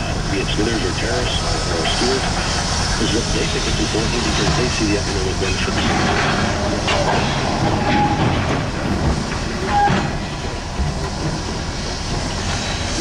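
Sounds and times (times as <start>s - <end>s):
heavy machinery rumble: 0.0s - 13.0s.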